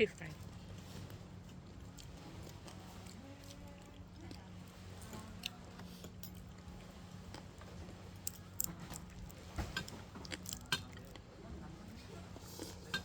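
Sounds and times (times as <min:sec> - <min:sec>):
person chewing and eating: 0:00.3 - 0:11.4.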